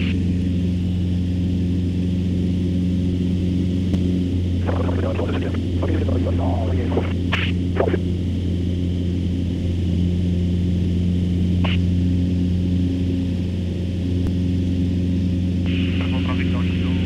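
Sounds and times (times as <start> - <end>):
airplane engine drone in cabin: 0.0 - 17.0.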